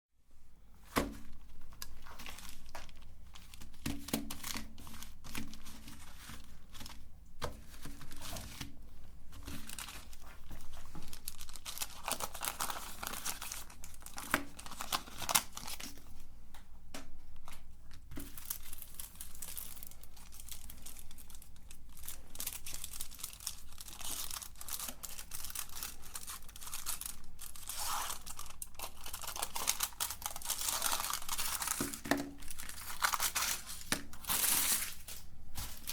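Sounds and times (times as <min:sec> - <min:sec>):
wrappers tearing and crinkling: 0:01.7 - 0:07.0, 0:09.4 - 0:16.0, 0:18.2 - 0:35.9.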